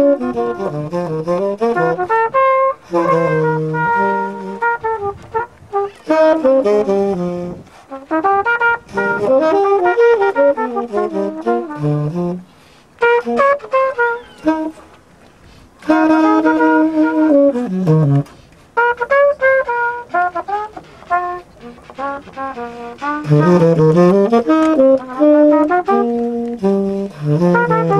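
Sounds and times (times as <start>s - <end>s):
tenor saxophone improvising: 0.0s - 27.9s
trumpet improvising: 0.0s - 27.9s.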